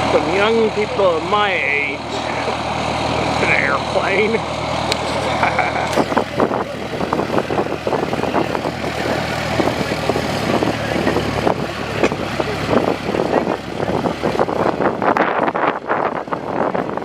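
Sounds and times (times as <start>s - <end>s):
small aircraft engine humming: 0.0s - 17.0s
wind buffeting microphone: 0.0s - 17.0s.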